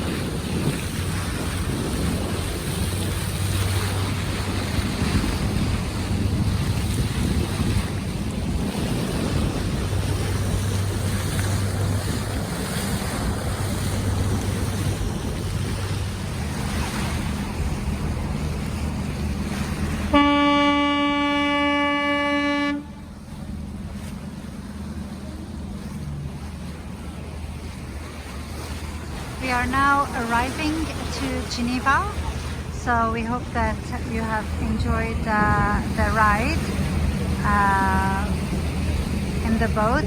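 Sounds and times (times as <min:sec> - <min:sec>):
low engine hum: 0:00.0 - 0:40.0
wind and water noise: 0:00.0 - 0:40.0
boat horn blast: 0:00.1 - 0:27.4, 0:28.0 - 0:40.0.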